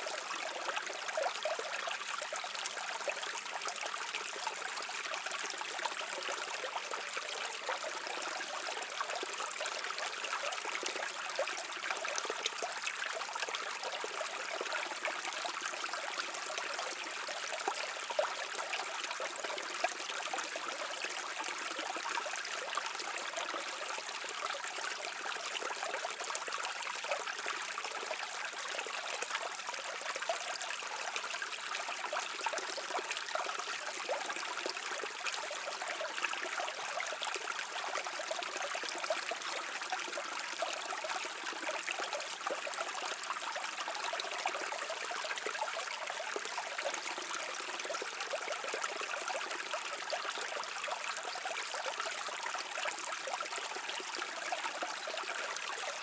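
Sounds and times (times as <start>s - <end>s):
brook babbling over stones: 0.0s - 56.0s.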